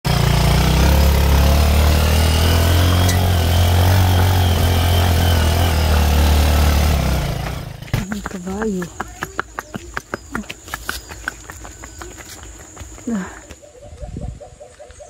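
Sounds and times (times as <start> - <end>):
engine rumbling: 0.0 - 13.6.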